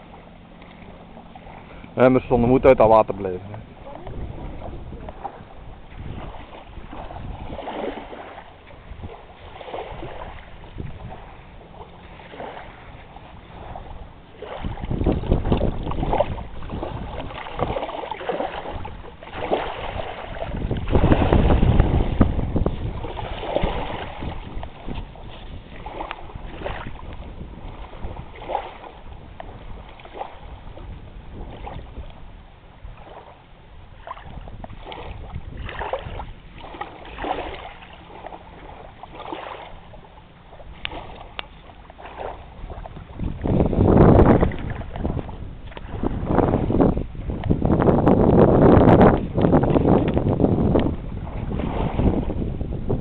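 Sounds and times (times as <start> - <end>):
small waves lapping on sand: 0.0 - 53.0
wind buffeting microphone: 0.0 - 53.0.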